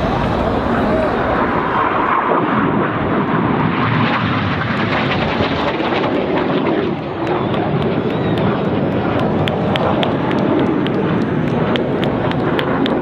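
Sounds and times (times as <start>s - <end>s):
jet engines rushing past: 0.0s - 13.0s.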